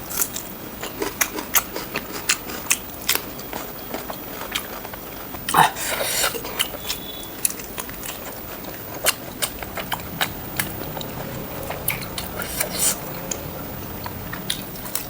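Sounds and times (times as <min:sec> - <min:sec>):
wet chewing clicks: 0:00.0 - 0:15.0.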